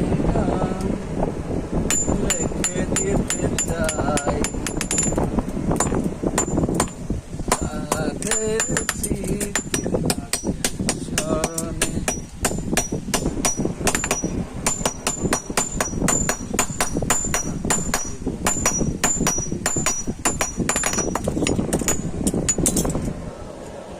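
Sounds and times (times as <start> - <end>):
hammers striking iron on anvil: 1.9 - 22.8.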